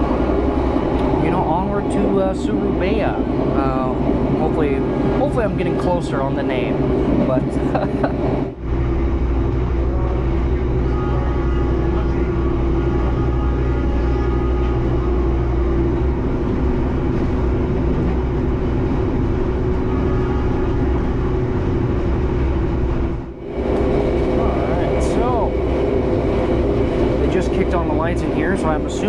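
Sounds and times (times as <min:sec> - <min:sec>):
constant hum: 0:00.0 - 0:29.0
train wheels rumbling on track: 0:00.0 - 0:29.0.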